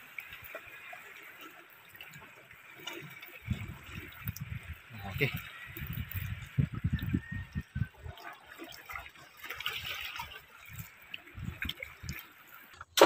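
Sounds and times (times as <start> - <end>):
water trickling and dripping: 0.0 - 12.9.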